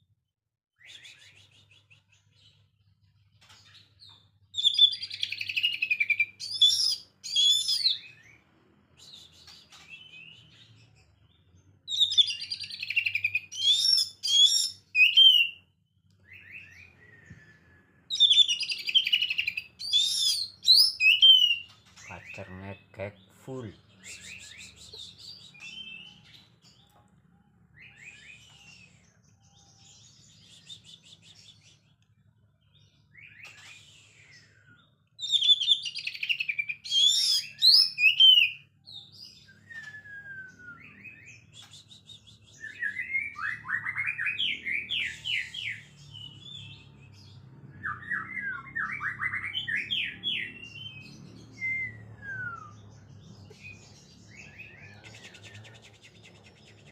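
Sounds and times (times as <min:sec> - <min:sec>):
bird singing whistles: 0:00.8 - 0:02.2, 0:04.6 - 0:08.4, 0:09.0 - 0:10.7, 0:11.9 - 0:22.4, 0:23.9 - 0:26.4, 0:27.8 - 0:29.1, 0:29.8 - 0:31.9, 0:33.1 - 0:56.9.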